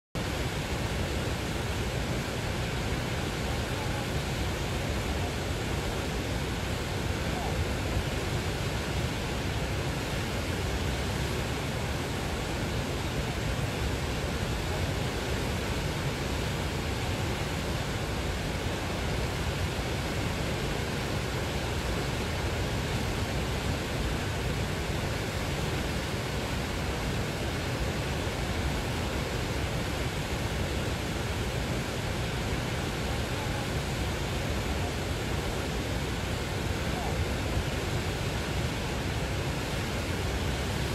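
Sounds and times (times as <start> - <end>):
river rushing over rapids: 0.2 - 40.9.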